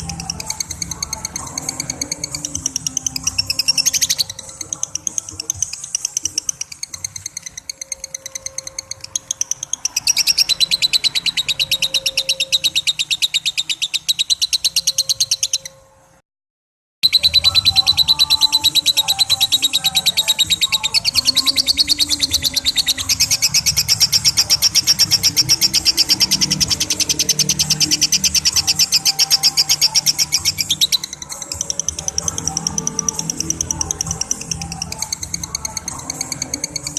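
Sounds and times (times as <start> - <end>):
lovebird chattering: 0.0 - 15.8, 17.0 - 36.9.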